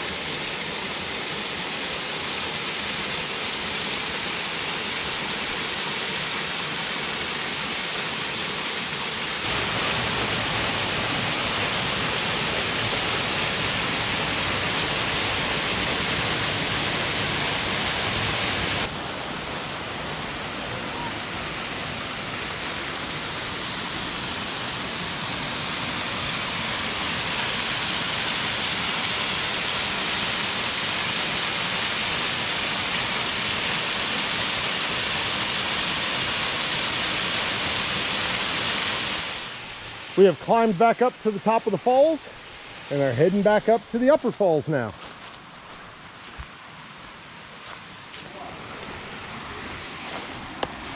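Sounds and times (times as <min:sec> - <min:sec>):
waterfall rushing: 0:00.0 - 0:45.0, 0:47.1 - 0:50.9.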